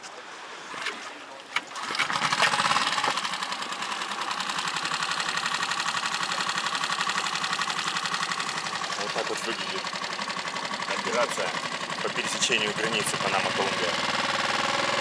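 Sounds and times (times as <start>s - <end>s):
outboard motor running: 0.8s - 15.0s.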